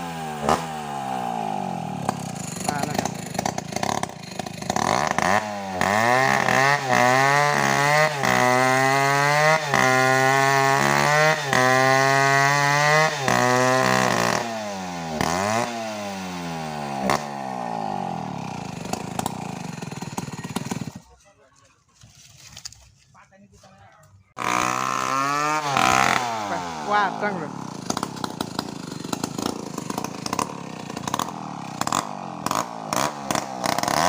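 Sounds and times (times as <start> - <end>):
chainsaw revving: 0.0 - 21.2, 24.4 - 34.0.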